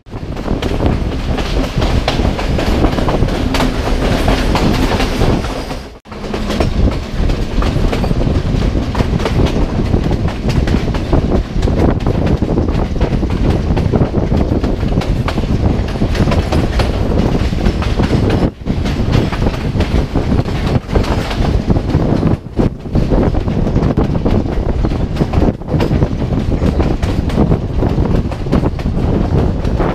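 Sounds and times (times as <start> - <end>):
train wheels clattering over rail joints: 0.1 - 29.9.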